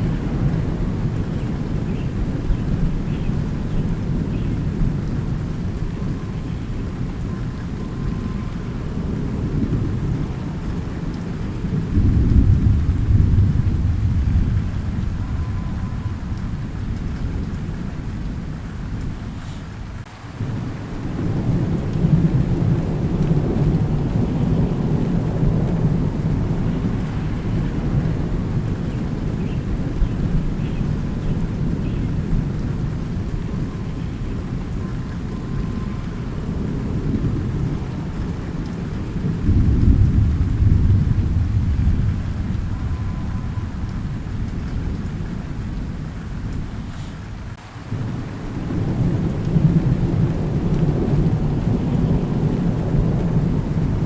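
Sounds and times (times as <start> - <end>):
steady rain: 0.0 - 54.0
thunder rumbling: 0.0 - 54.0.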